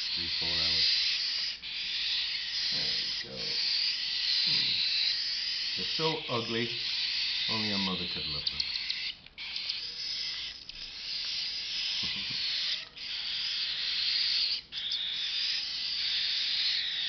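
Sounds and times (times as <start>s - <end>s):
cockatiel chicks raspy begging calls: 0.0s - 17.0s.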